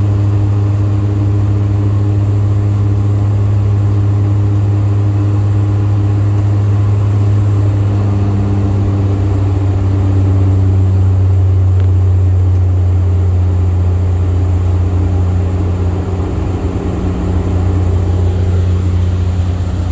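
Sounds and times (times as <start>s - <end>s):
airplane engines droning: 0.0s - 19.9s
faint steady tones: 0.0s - 19.9s.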